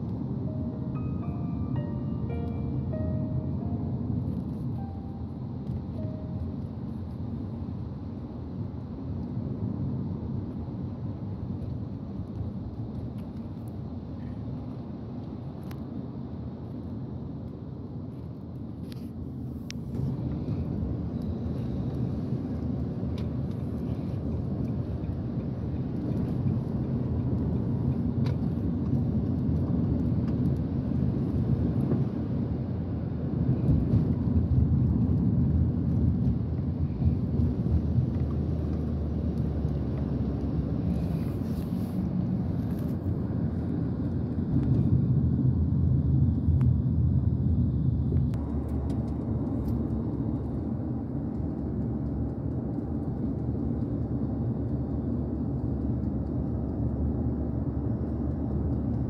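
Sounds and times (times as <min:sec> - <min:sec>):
engine and road noise rumble: 0:00.0 - 0:59.0.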